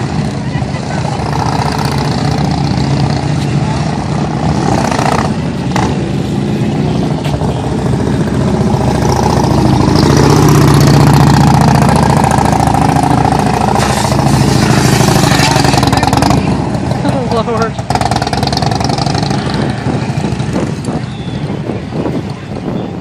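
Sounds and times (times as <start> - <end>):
motorcycle engines at low speed: 0.0 - 23.0.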